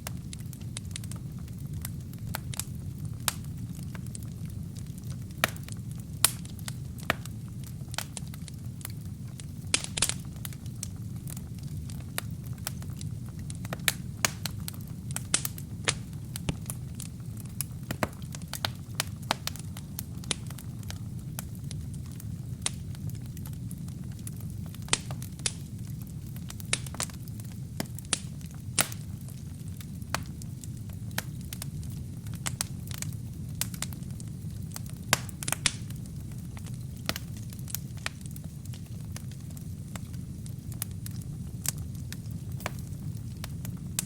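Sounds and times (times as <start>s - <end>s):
fire crackles and pops: 0.0s - 44.0s
low rumble of flames: 0.0s - 44.0s.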